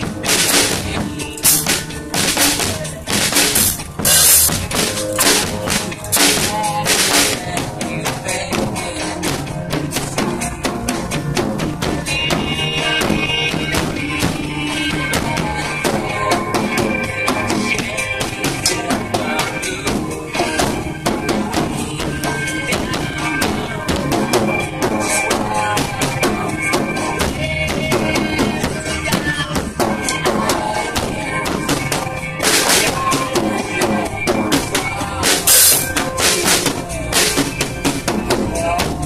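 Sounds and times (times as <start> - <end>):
drum kit played with sticks: 0.0 - 39.0
recorded backing music: 0.0 - 39.0.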